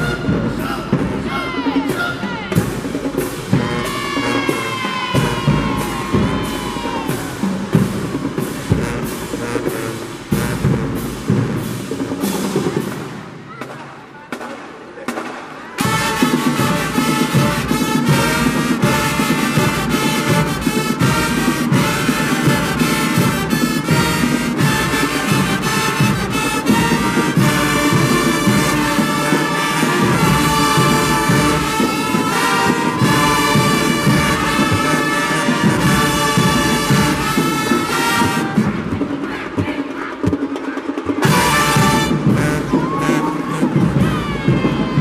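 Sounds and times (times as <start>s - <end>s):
marching band brass music: 0.0s - 45.0s.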